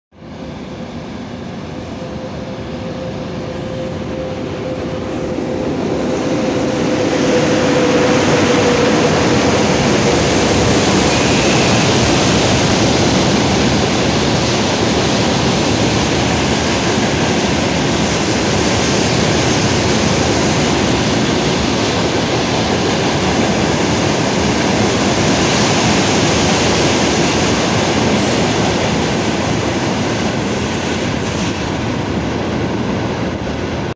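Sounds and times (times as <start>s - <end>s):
freight train wheel and rail noise: 0.1s - 33.9s.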